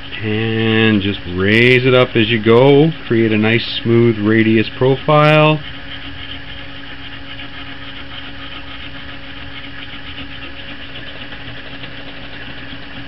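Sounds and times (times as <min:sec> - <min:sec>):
fine repeated scratching: 0:00.0 - 0:13.0
steady mechanical hum: 0:00.0 - 0:13.0.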